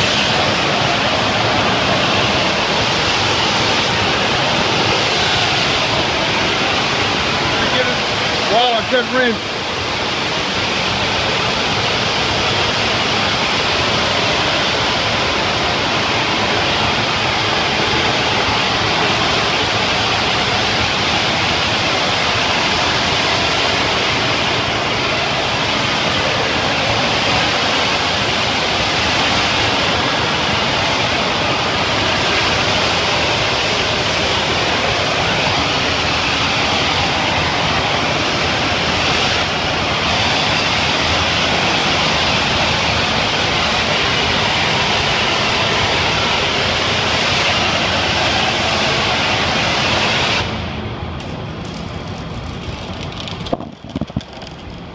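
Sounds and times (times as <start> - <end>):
pressure washer spraying hiss: 0.0 - 50.8.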